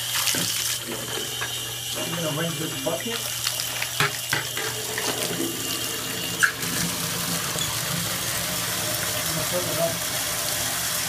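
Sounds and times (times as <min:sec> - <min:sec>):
tap water running into bucket: 0:00.0 - 0:11.0.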